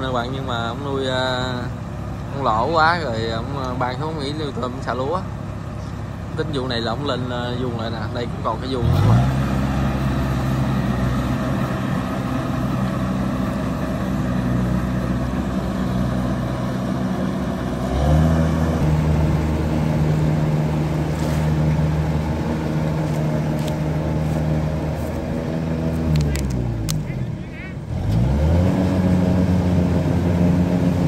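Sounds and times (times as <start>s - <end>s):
combine harvester engine droning: 0.0s - 31.0s.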